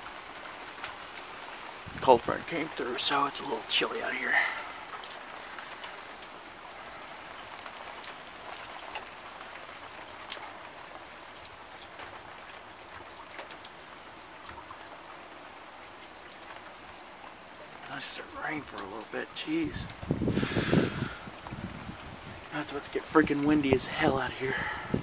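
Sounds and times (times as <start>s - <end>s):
light rain falling: 0.0s - 25.0s.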